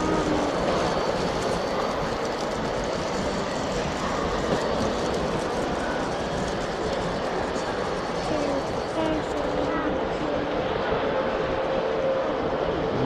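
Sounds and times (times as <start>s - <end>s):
model train rattling on track: 0.0s - 12.6s.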